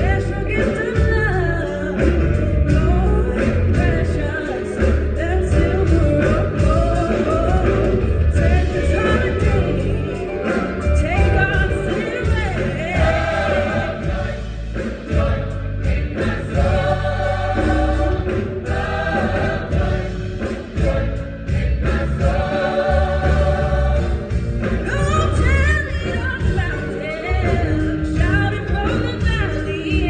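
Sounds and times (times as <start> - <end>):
band with bass and drums: 0.0 - 30.0
gospel choir singing: 0.0 - 30.0.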